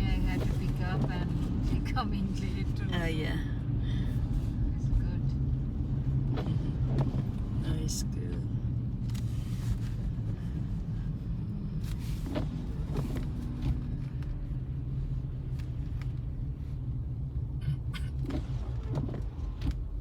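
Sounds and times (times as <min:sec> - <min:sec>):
car driving on snowy road: 0:00.0 - 0:20.0.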